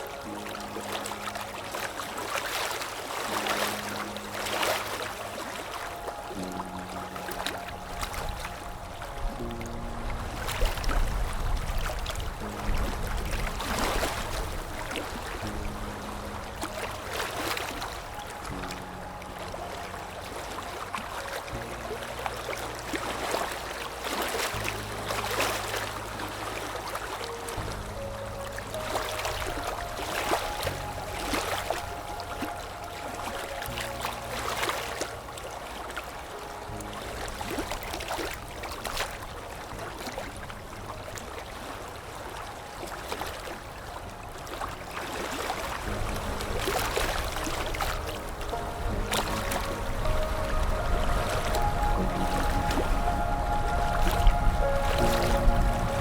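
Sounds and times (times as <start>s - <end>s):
low steady tone: 0.0s - 56.0s
sea waves washing: 0.0s - 56.0s
soft low music pad: 0.0s - 56.0s.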